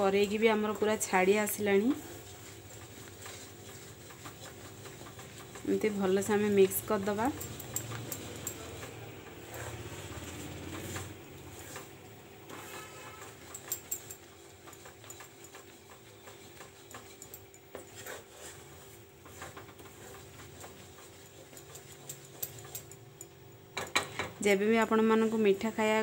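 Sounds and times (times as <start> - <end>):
wooden spatula scraping a pan: 0.0 - 22.9, 24.3 - 26.0.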